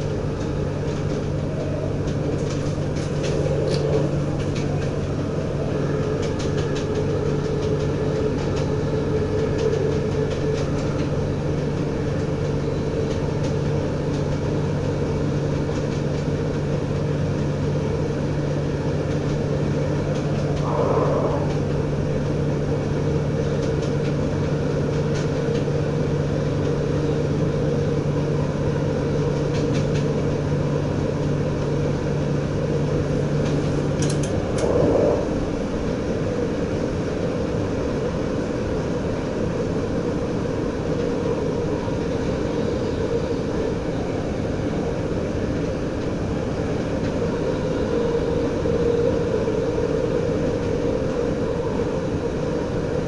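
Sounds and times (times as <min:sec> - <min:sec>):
diesel engine hum: 0:00.0 - 0:53.0
wheel and rail noise: 0:00.0 - 0:53.0.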